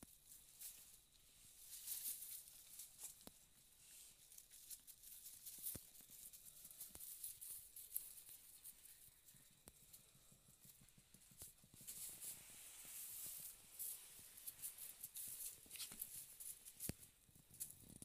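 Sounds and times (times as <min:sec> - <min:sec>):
rustling of straw: 0:00.1 - 0:10.0, 0:10.7 - 0:17.2
goat kids stepping in straw: 0:00.2 - 0:10.0, 0:10.6 - 0:17.1.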